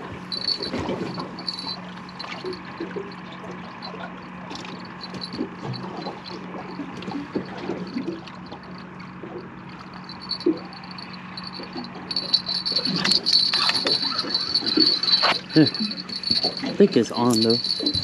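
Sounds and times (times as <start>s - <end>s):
steady low hum: 0.0s - 18.0s
water lapping against boat hull: 0.0s - 18.0s.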